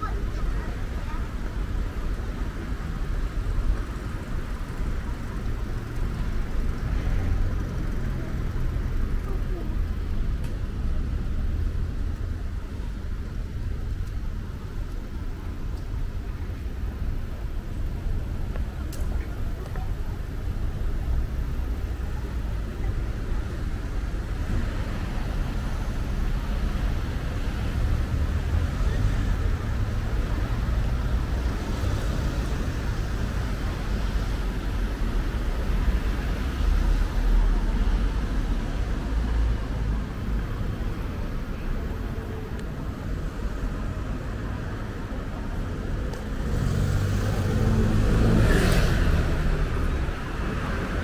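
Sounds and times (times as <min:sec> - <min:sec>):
low rumble of cars: 0:00.0 - 0:51.0.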